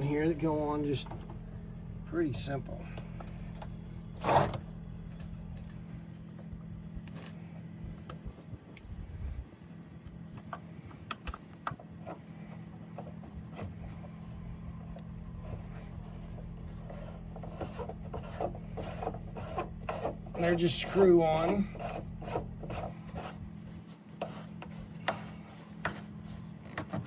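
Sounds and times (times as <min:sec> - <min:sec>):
low hum: 0:00.0 - 0:26.8.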